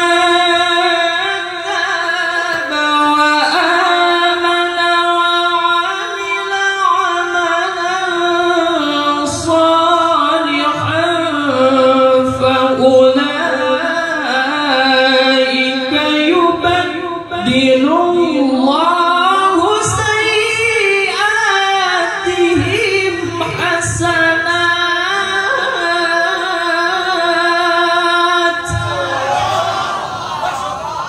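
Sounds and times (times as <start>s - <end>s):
young man reciting melodically: 0.0s - 31.0s.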